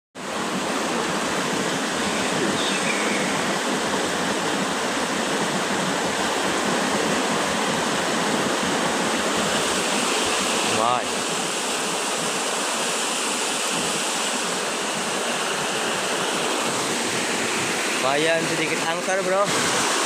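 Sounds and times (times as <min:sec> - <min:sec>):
water rushing: 0:00.2 - 0:20.0.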